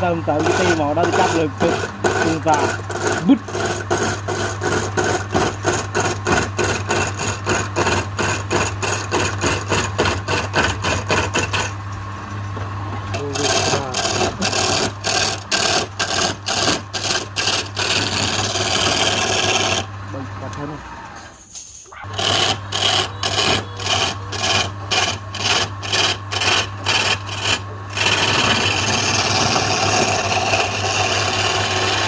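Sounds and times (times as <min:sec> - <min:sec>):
chisel scraping spinning wood: 0:00.0 - 0:20.7, 0:22.1 - 0:32.0
wood lathe motor hum: 0:00.0 - 0:21.4, 0:22.1 - 0:32.0.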